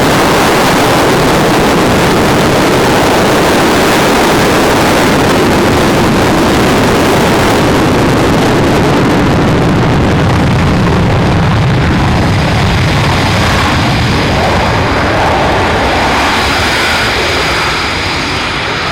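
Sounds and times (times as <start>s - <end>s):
aircraft engine noise: 0.0s - 18.9s.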